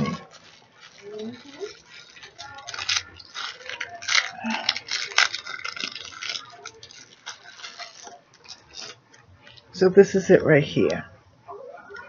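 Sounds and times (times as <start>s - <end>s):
packaging crinkling: 0.0s - 9.8s.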